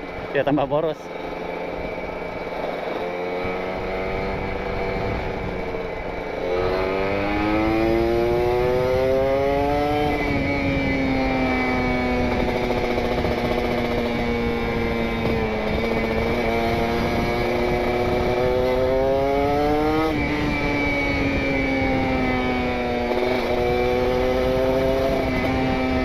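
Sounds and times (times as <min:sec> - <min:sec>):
two-stroke motorcycle engine revving: 0:00.0 - 0:26.0.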